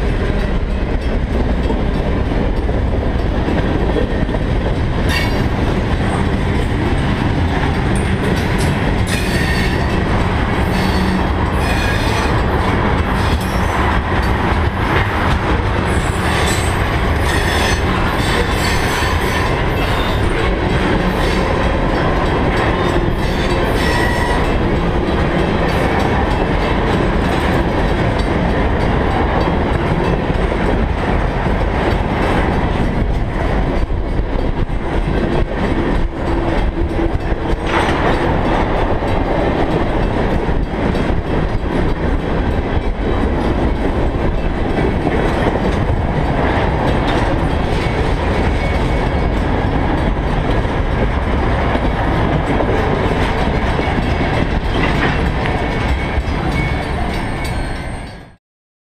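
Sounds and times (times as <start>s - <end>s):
train wheels rumbling on rails: 0.0s - 58.4s.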